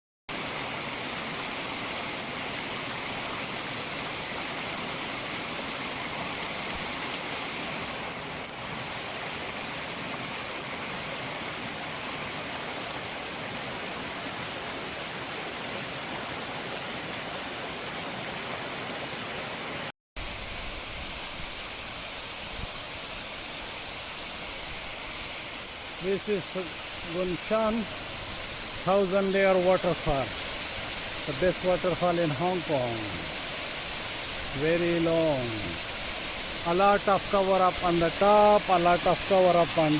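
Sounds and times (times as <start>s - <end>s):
waterfall rushing: 0.3s - 39.9s.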